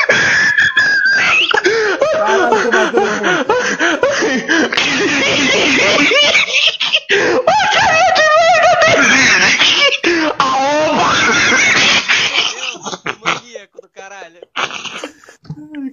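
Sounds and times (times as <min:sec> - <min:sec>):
man laughing hard: 0:00.0 - 0:15.4.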